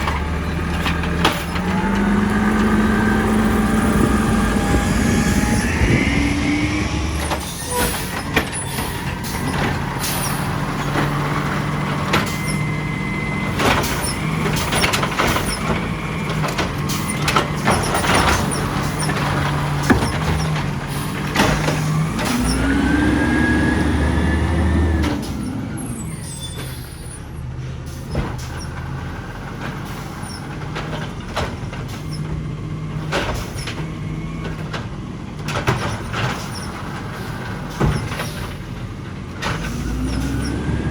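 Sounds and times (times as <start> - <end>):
diesel engine running and revving: 0.0 - 40.9.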